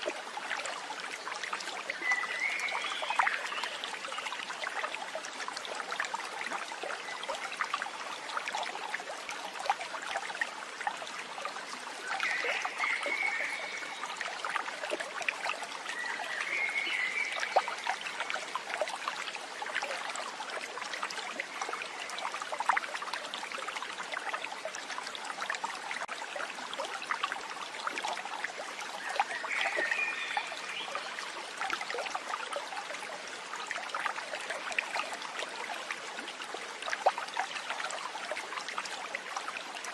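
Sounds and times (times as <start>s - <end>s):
babbling stream: 0.0s - 39.9s.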